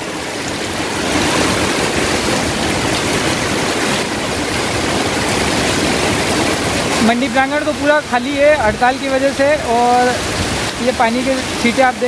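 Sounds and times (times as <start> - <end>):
heavy rain pouring on concrete: 0.0 - 12.0.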